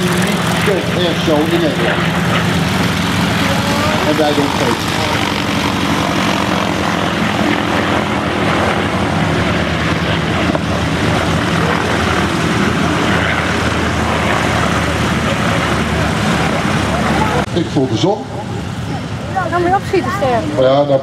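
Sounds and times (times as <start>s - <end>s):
propeller planes droning past: 0.0s - 21.0s.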